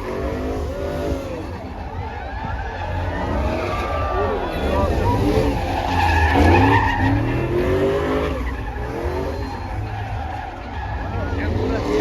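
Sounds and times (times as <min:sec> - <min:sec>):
tires squealing and skidding: 0:00.0 - 0:12.0
truck engine revving: 0:00.0 - 0:12.0.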